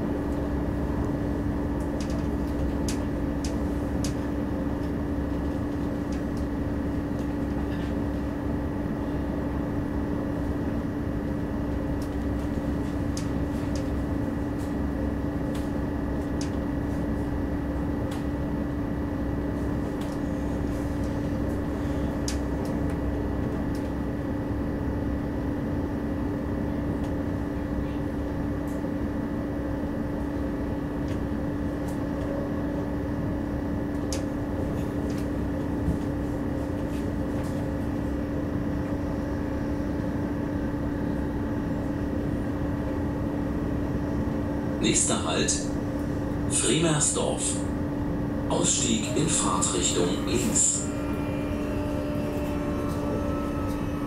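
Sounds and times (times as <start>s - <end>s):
train interior rumble: 0.0s - 54.0s.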